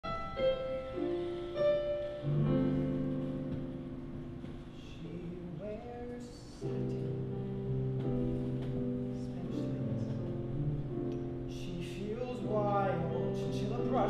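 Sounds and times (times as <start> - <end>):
piano playing: 0.0 - 14.0.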